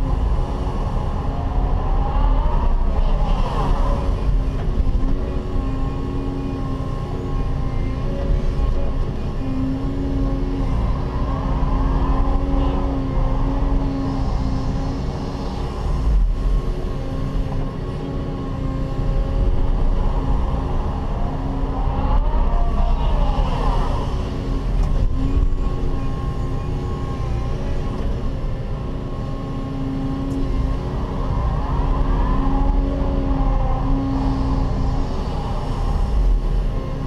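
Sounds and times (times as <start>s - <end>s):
excavator diesel engine working: 0.0s - 37.0s
hydraulic whine: 0.0s - 37.0s.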